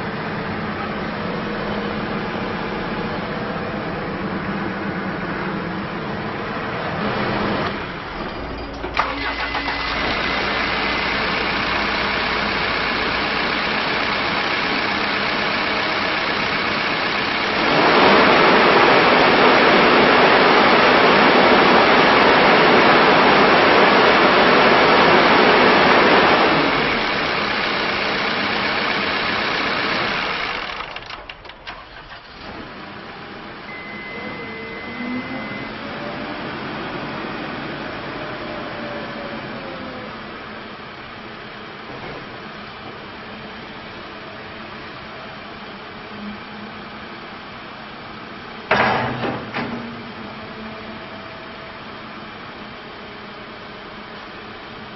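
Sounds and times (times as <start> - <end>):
diesel engine idling and revving: 0.0 - 48.7.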